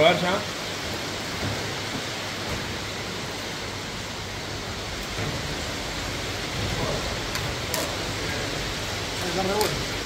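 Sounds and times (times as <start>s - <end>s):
steady rushing hiss: 0.0s - 10.0s.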